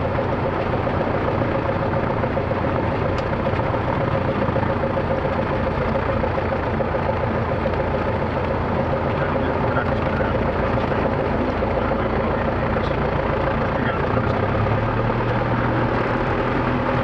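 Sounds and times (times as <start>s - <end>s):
light aircraft engine idling: 0.0s - 17.0s.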